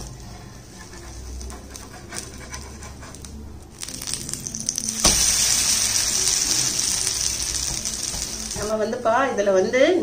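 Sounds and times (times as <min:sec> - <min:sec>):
metal spatula scraping: 0:00.0 - 0:08.8
dosa sizzling: 0:00.0 - 0:09.5.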